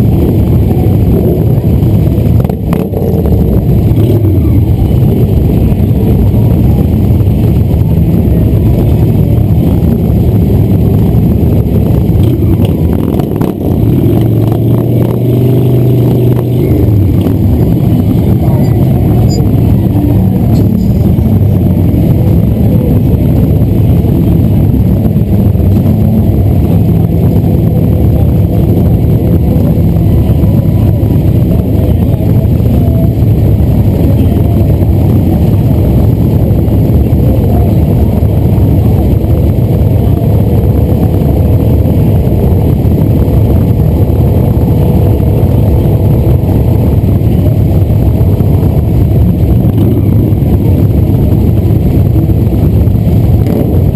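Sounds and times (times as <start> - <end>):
motorcycle engines idling: 0.0 - 53.9.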